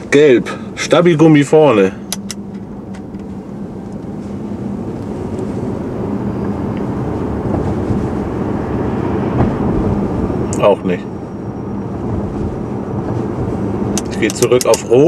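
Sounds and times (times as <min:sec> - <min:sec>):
car tyre and road noise: 0:00.0 - 0:15.0
steady low hum: 0:00.0 - 0:15.0.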